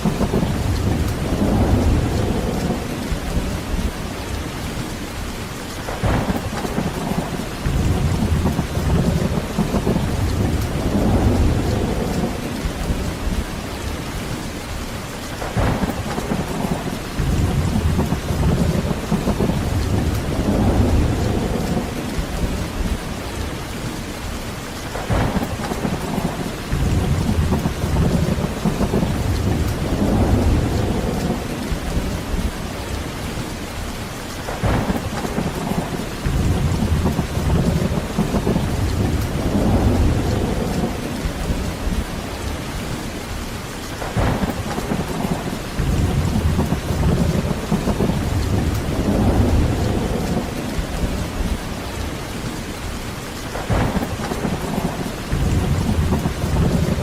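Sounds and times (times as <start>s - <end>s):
thunder crack and rumble: 0.0s - 4.8s, 5.8s - 14.4s, 15.3s - 24.0s, 24.8s - 33.5s, 34.4s - 43.0s, 43.9s - 52.8s, 53.4s - 57.0s
heavy rain falling: 0.0s - 57.0s.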